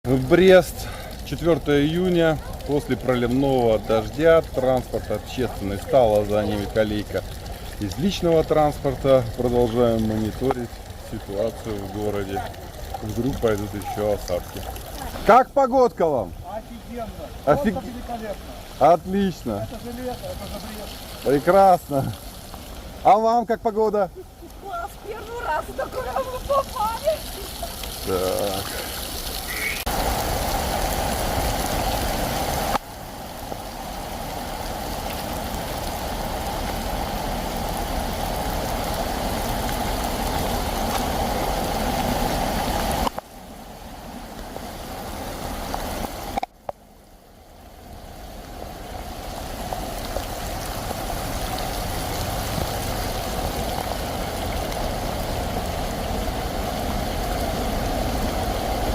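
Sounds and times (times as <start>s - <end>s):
rainwater running: 0.0s - 58.9s
vehicles passing on wet street: 0.0s - 58.9s.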